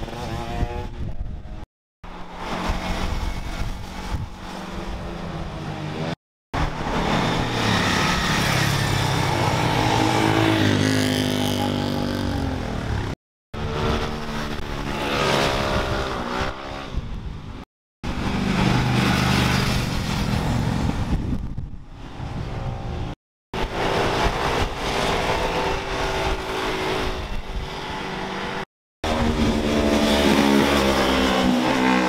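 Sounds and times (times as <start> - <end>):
fast vehicles passing by: 1.5 - 21.4, 22.0 - 32.0.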